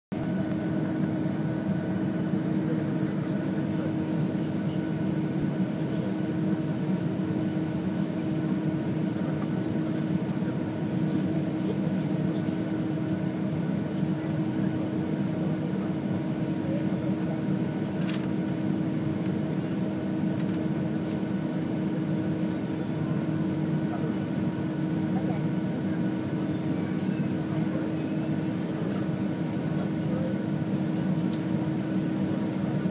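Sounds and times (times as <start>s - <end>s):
airplane cabin hum: 0.1s - 32.9s.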